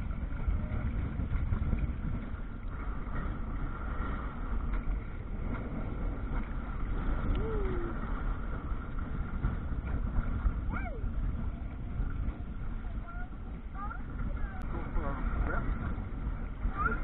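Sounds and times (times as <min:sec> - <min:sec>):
water lapping along hull: 0:00.0 - 0:17.0
wind buffeting microphone: 0:00.0 - 0:17.0.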